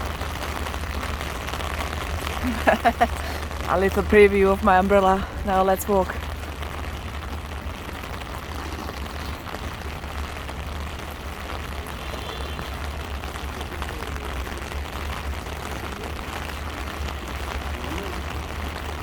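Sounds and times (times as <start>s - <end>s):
rain on an umbrella: 0.0s - 19.0s.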